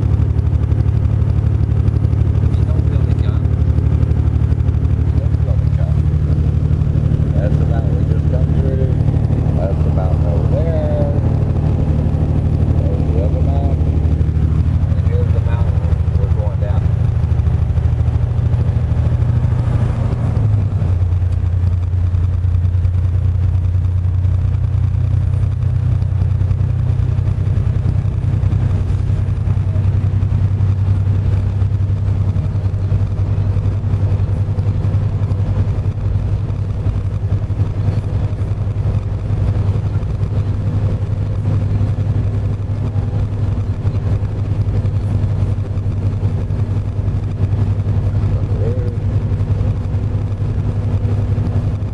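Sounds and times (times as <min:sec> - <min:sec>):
heavy truck engine droning: 0:00.0 - 0:51.9.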